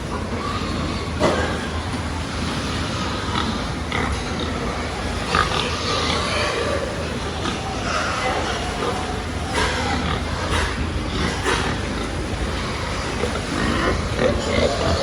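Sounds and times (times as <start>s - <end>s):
pigs grunting and squealing: 0.0s - 15.0s
steady background noise: 0.0s - 15.0s.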